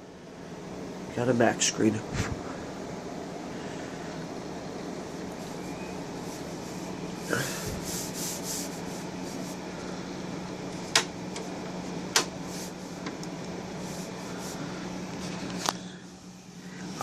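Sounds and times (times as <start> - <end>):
computer cooling fans humming: 0.0 - 17.0.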